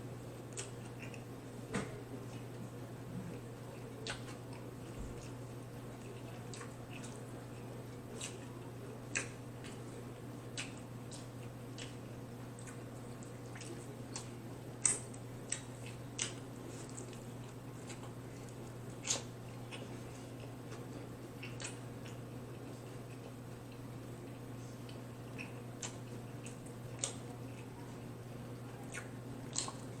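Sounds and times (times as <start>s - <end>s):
steady low hum: 0.0s - 30.0s
wet chewing and mouth clicks: 0.4s - 1.6s, 2.2s - 28.0s, 28.8s - 30.0s.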